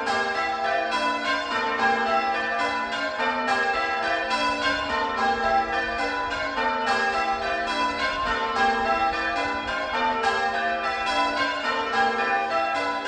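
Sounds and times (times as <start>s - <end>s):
church bells change ringing: 0.0s - 13.0s.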